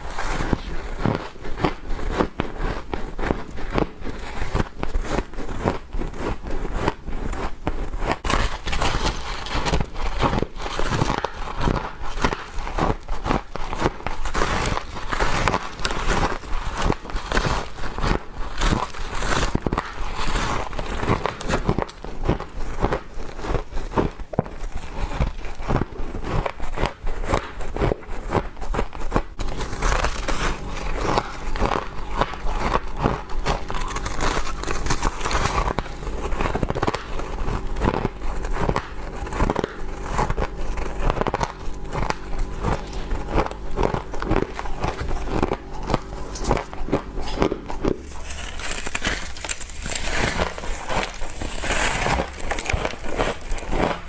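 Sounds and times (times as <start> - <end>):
frost crunching being chewed: 0.0 - 54.0.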